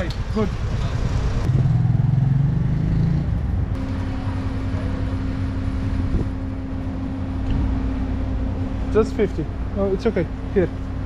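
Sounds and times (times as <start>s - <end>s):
auto rickshaw engine running: 0.0s - 11.0s
street traffic: 0.0s - 11.0s.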